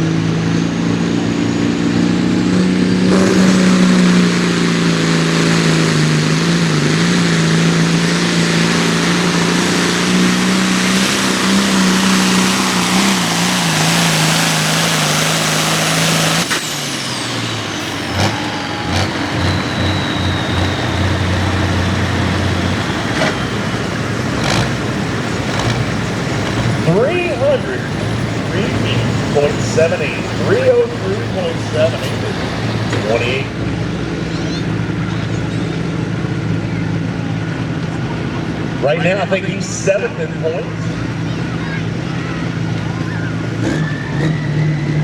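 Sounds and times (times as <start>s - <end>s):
tractor engine under full load: 0.0s - 45.0s.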